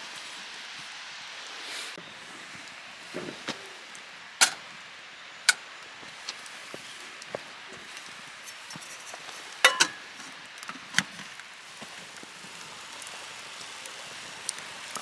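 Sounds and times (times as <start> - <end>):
fire and food sizzling: 0.0 - 15.0.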